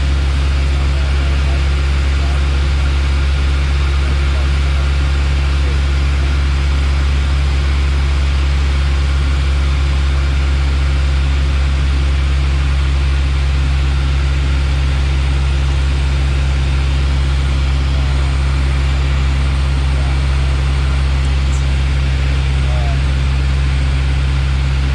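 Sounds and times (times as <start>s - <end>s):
aircraft engine and propeller drone: 0.0s - 24.9s.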